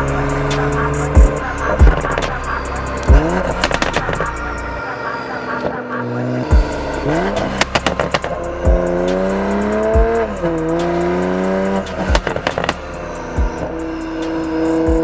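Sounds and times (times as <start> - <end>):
background music: 0.0 - 15.0
car engine revving: 0.0 - 15.0
car exhaust crackling and popping: 0.0 - 15.0.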